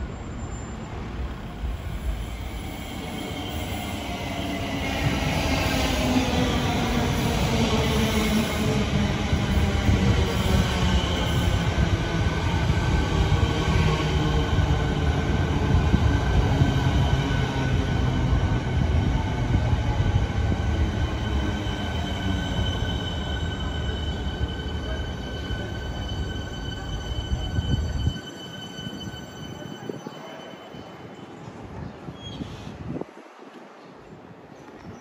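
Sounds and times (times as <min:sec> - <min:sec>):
high steady train whine: 0:00.0 - 0:34.5.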